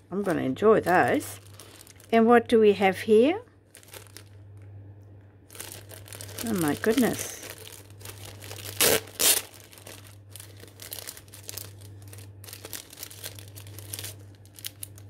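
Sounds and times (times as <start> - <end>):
packaging crinkling and rustling: 0.0 - 2.3, 3.6 - 15.0.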